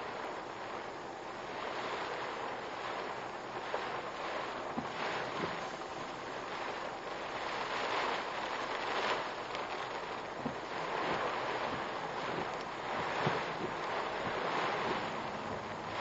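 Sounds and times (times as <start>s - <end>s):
wind and rain on a car: 0.0s - 16.0s.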